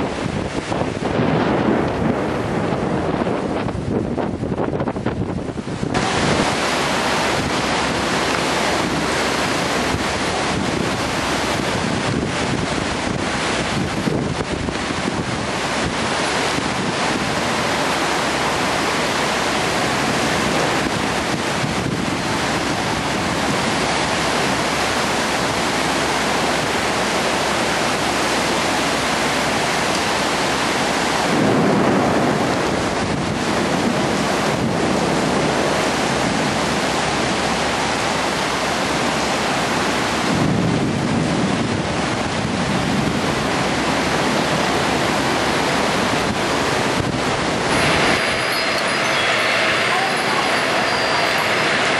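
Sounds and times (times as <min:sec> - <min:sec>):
torrential rain pouring: 0:00.0 - 0:51.9.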